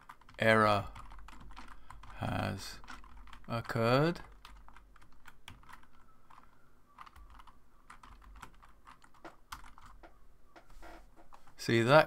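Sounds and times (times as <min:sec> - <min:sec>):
typing on keyboard: 0:00.0 - 0:10.2.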